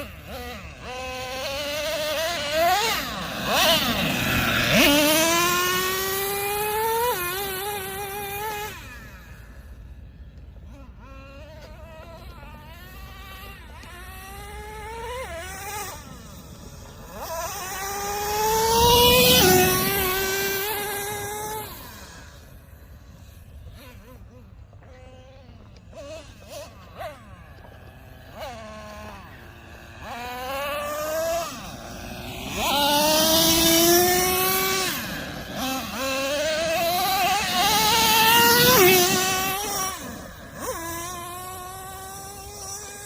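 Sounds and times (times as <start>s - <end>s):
nitro engine revving: 0.0s - 43.0s.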